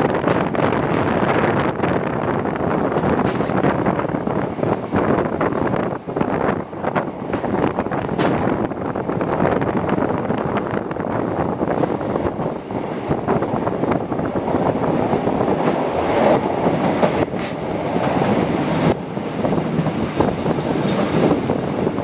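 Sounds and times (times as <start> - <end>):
train running on track: 0.0 - 22.0
wind rushing over microphone: 0.0 - 22.0.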